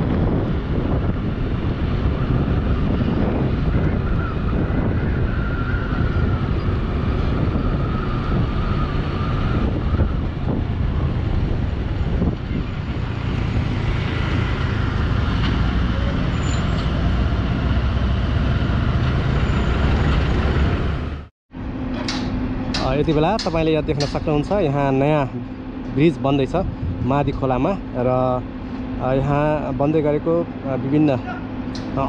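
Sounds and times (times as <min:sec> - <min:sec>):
road vehicle rumble: 0:00.0 - 0:32.0
wind: 0:00.0 - 0:32.0.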